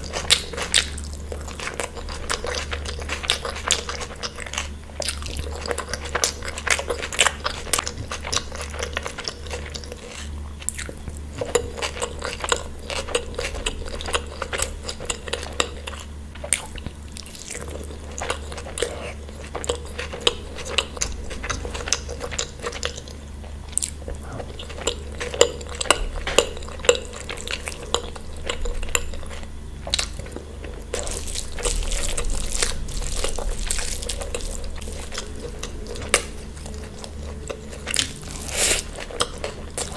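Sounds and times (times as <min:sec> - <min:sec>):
chewing and crunching food: 0:00.0 - 0:39.9
low steady hum: 0:00.0 - 0:39.9.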